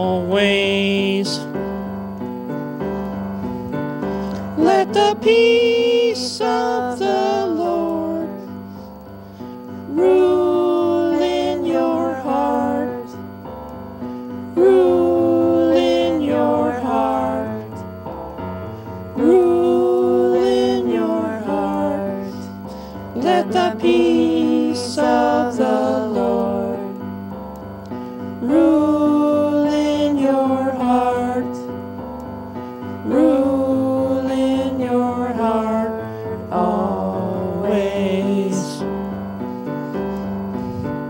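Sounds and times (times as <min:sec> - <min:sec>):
keyboard accompaniment: 0:00.0 - 0:41.0
worship chorus singing: 0:00.0 - 0:41.0.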